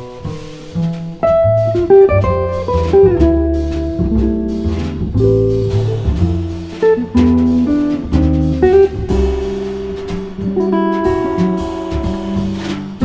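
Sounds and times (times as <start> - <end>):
jazz guitar: 0.0 - 13.0
walking bass line: 0.0 - 13.0.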